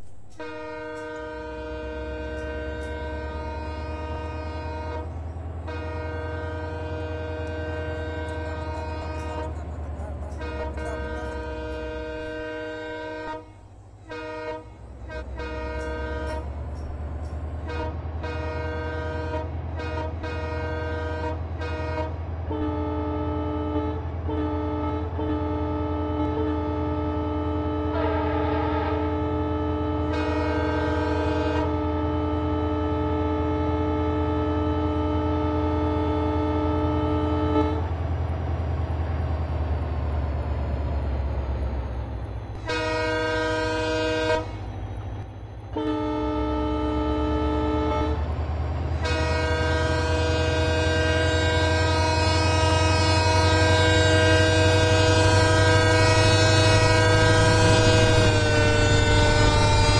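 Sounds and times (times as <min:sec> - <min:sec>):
train horn blasts: 0:00.0 - 0:38.2, 0:42.2 - 0:59.9
low train rumble: 0:00.0 - 0:59.9.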